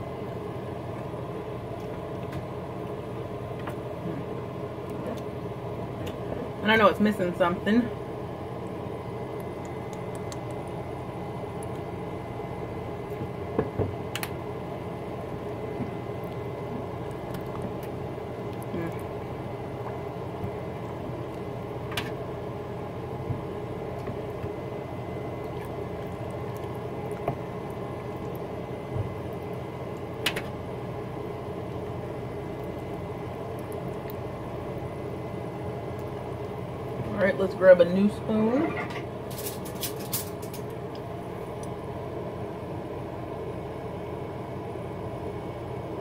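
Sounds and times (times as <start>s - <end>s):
background hum: 0.0s - 46.0s.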